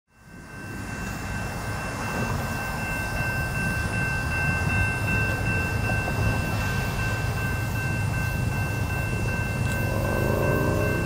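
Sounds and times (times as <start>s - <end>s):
locomotive engine rumble: 0.3s - 11.0s.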